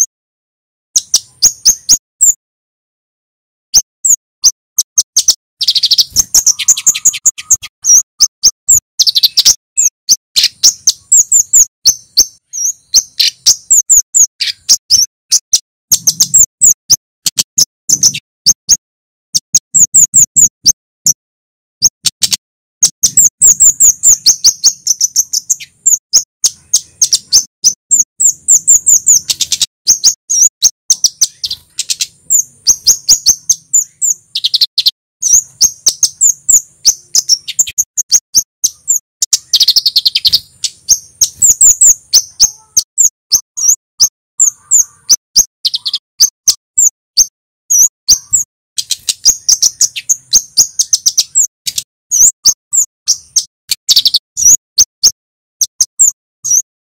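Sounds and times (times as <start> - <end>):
bird singing sharp chips: 1.0 - 2.4, 3.7 - 21.2, 21.8 - 56.7.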